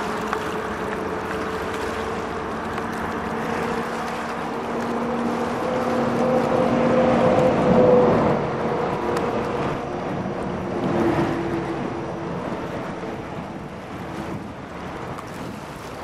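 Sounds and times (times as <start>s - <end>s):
engine humming: 0.0s - 15.2s
wind on microphone: 0.0s - 16.0s.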